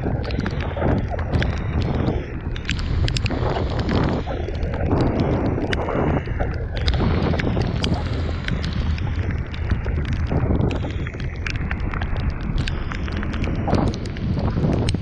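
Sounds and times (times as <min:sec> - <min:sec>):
raindrops ticking on camera: 0:00.0 - 0:15.0
wind buffeting microphone: 0:00.0 - 0:15.0.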